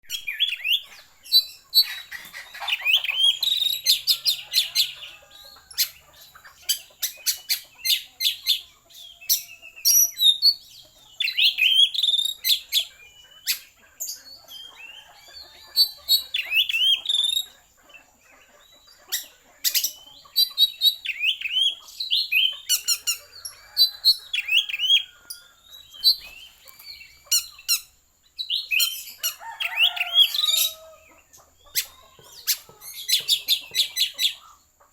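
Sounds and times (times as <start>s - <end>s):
songbird chirping: 0.0s - 34.9s.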